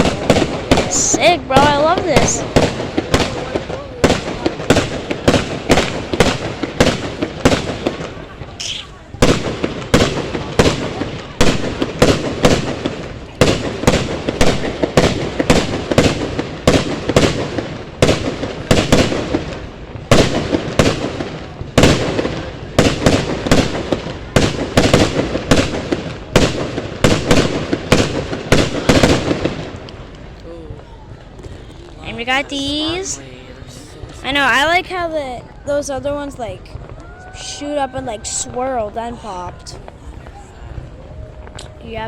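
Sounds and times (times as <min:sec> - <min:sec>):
fireworks banging: 0:00.0 - 0:42.0
fireworks rumble: 0:00.0 - 0:42.0.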